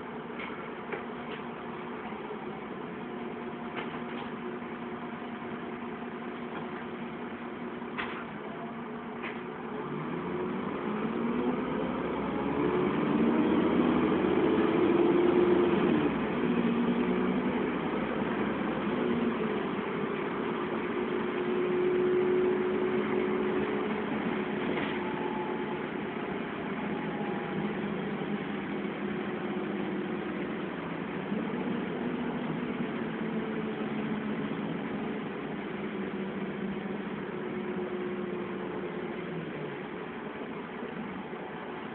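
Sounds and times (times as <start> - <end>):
bus diesel engine accelerating: 0.0 - 41.9.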